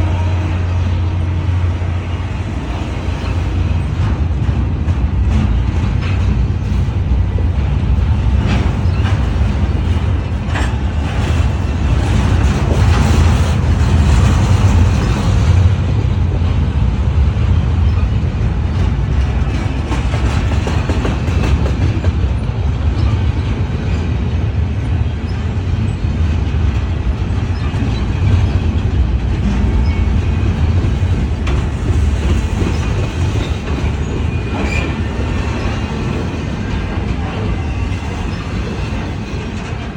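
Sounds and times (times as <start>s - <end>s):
train wheels rumbling on rail: 0.0s - 39.9s
wheels clicking over rail joints: 2.9s - 39.9s.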